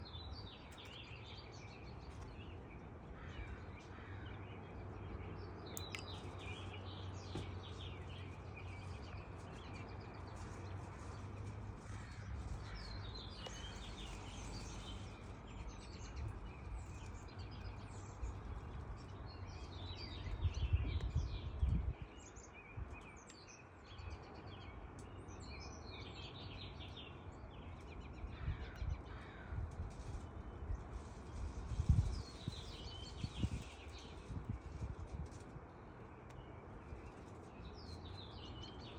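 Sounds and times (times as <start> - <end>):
wild birds chirping and singing: 0.0 - 35.4, 36.0 - 38.9.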